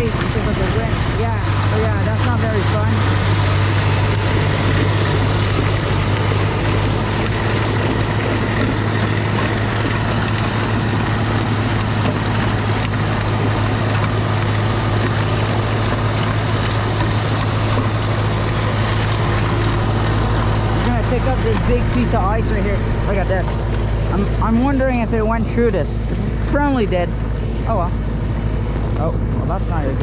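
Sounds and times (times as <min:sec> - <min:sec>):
snowblower engine running: 0:00.0 - 0:30.0.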